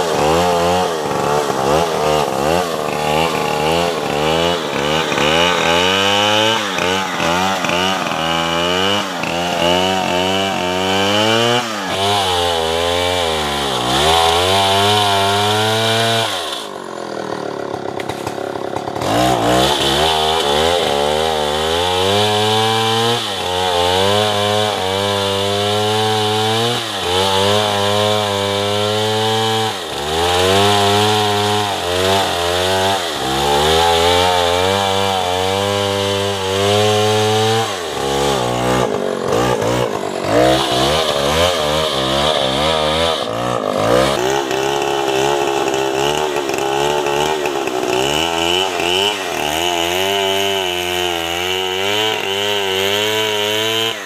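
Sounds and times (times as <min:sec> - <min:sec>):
chainsaw cutting through trunk: 0:00.0 - 0:54.0.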